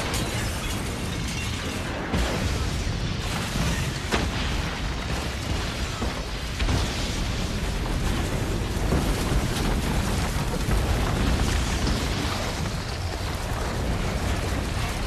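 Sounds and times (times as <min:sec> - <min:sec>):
debris crashing: 0:00.0 - 0:15.0
hard explosion bangs: 0:00.0 - 0:15.0
rumbling explosion blast: 0:00.0 - 0:15.0.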